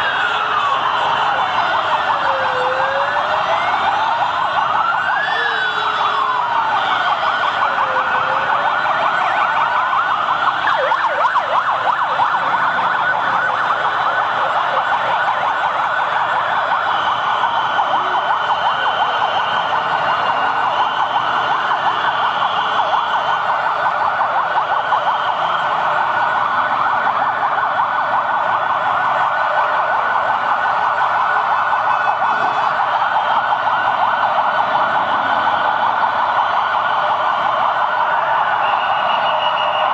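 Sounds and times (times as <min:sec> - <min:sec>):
massed sirens and horns: 0:00.0 - 0:39.9
siren wailing up and down: 0:00.0 - 0:39.9.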